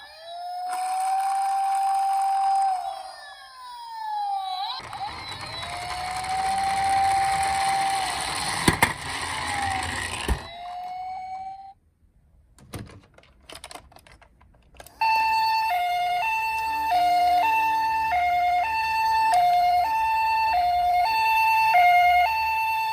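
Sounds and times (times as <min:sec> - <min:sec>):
toy siren tone: 0:00.0 - 0:11.8, 0:14.9 - 0:22.9
toy two-tone hi-lo siren: 0:00.0 - 0:11.8, 0:14.9 - 0:22.9.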